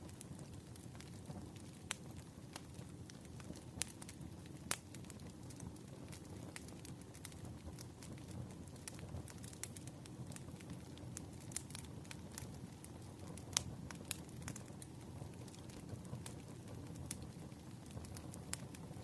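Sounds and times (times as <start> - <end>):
sharp pops from fire: 0.0 - 19.0
wood fire crackling: 0.0 - 19.0.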